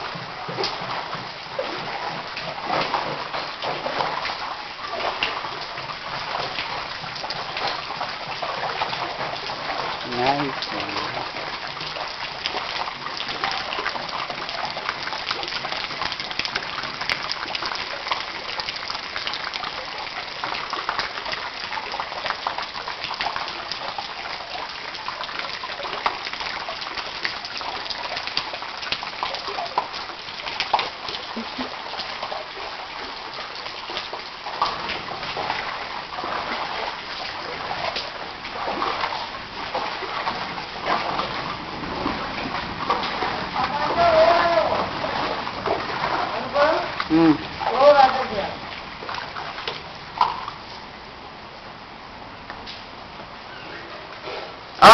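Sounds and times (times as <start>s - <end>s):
floodwater rushing along road: 0.0s - 54.9s
water splashes: 0.0s - 54.9s.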